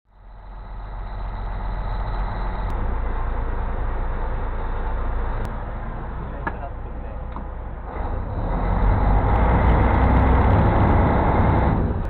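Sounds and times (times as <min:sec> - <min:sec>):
diesel engine humming: 0:00.1 - 0:12.0.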